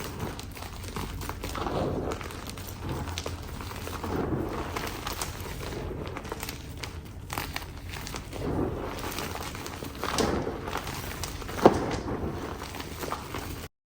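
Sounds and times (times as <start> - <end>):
sharp crack: 0.0 - 13.6
chalk being crushed: 0.0 - 13.7.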